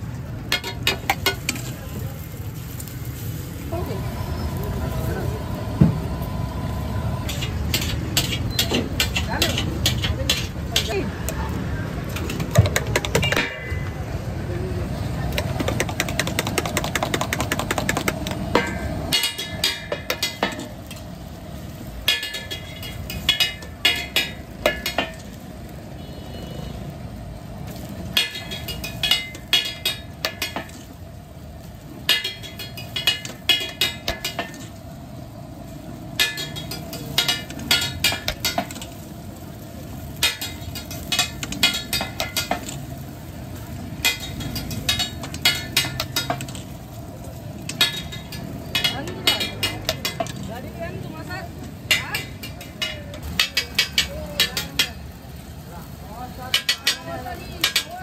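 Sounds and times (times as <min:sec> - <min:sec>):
eggs sizzling on griddle: 0:00.0 - 0:58.0.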